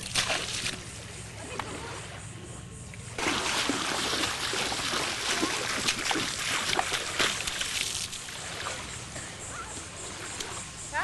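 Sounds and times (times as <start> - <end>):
feet splashing through shallow water: 0.0 - 2.2, 3.2 - 10.8.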